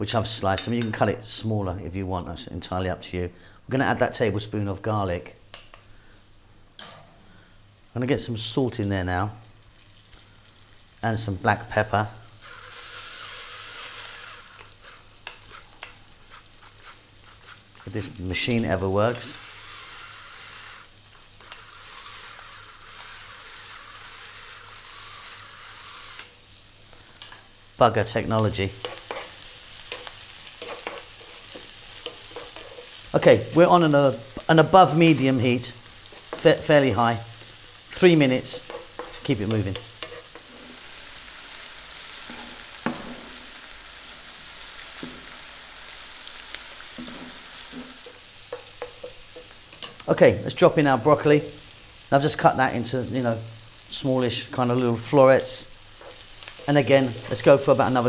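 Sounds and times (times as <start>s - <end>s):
onion and garlic sizzling in oil: 5.3s - 58.0s.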